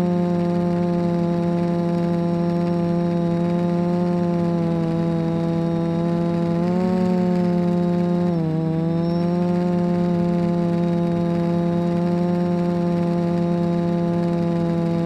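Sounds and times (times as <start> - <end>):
engine running at high speed: 0.0 - 15.0.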